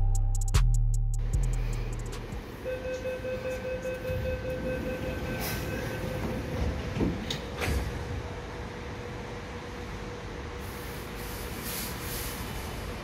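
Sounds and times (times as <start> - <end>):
train humming: 1.2 - 13.0.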